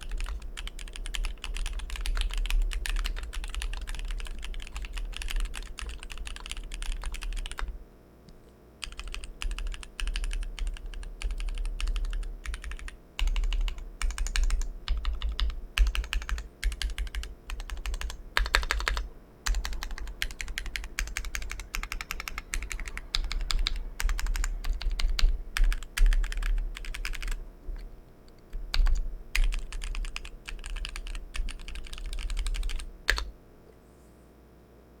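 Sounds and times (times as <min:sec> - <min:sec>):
mechanical keyboard typing: 0:00.0 - 0:07.7, 0:08.8 - 0:33.3.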